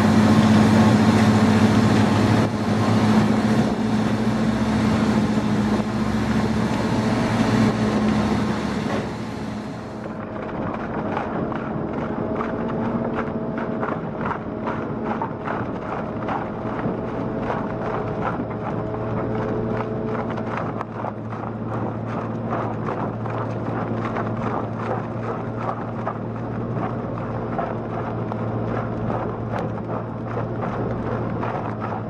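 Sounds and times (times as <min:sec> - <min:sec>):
shredder engine drone: 0:00.0 - 0:32.0.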